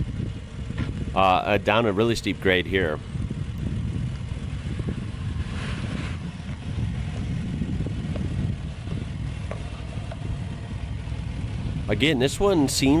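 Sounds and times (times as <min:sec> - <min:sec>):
engine rumbling low: 0:00.0 - 0:13.0.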